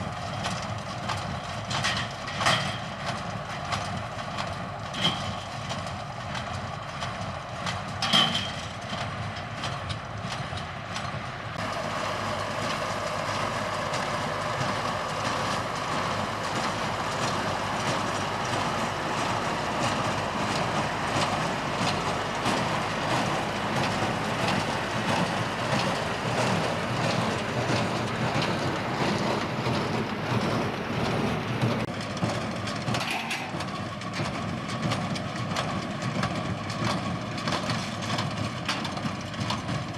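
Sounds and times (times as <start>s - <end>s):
hay baler clattering: 0.0s - 39.9s
tractor engine running: 0.0s - 39.9s.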